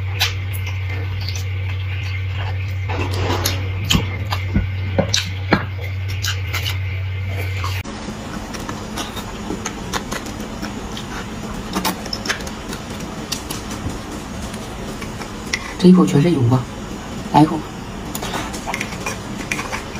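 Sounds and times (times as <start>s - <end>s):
chewing and sucking on bones: 0.0s - 15.8s, 18.1s - 19.9s
steady low hum: 0.0s - 19.9s.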